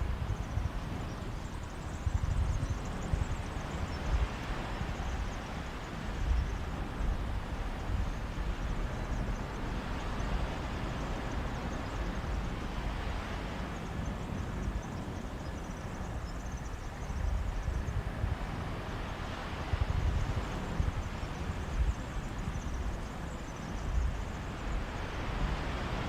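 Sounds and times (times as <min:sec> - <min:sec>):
sea waves washing on beach: 0:00.0 - 0:26.0
wind buffeting microphone: 0:00.0 - 0:26.0.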